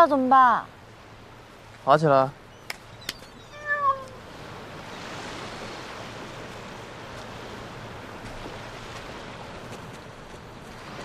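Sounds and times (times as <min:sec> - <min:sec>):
sea surf washing onto shore: 0:00.0 - 0:11.0.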